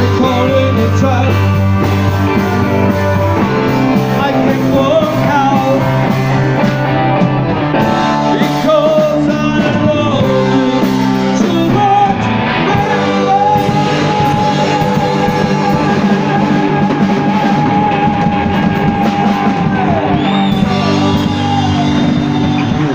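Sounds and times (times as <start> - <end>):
person singing: 0.0 - 6.4, 7.8 - 22.9
bass guitar: 0.0 - 22.9
drum kit: 0.0 - 22.9
electric guitar: 0.0 - 22.9.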